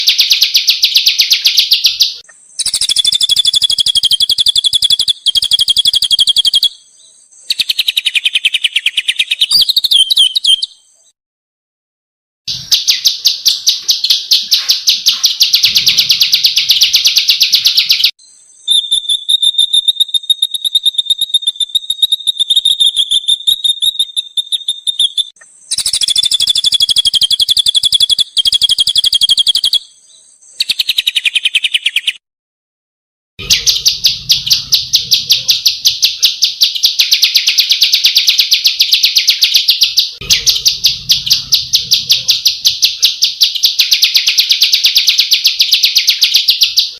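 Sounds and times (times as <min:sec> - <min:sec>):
songbirds singing rapid trills: 0:00.0 - 0:11.2, 0:12.5 - 0:32.2, 0:33.4 - 0:46.9.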